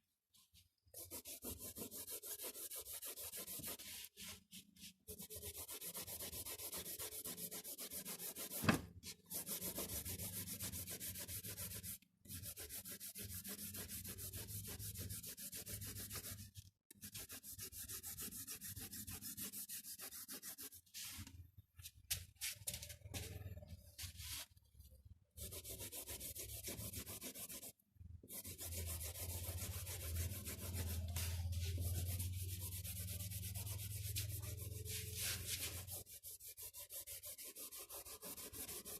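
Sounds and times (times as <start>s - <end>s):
pencil scratching on paper: 0.8s - 21.2s, 25.4s - 38.9s.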